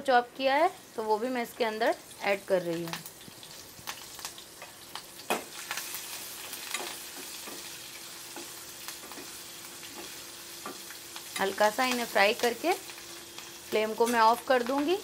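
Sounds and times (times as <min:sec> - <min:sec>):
chillies sizzling in hot oil: 0:00.0 - 0:15.0.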